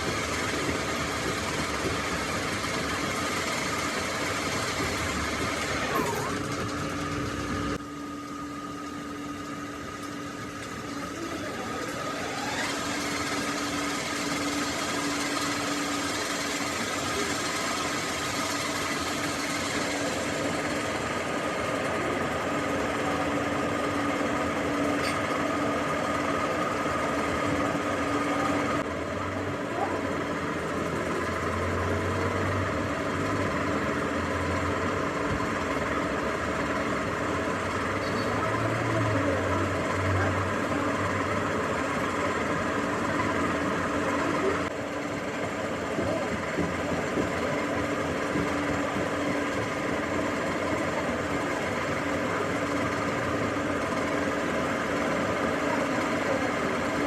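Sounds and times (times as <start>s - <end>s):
machine tool running: 0.0s - 29.1s, 30.1s - 57.0s.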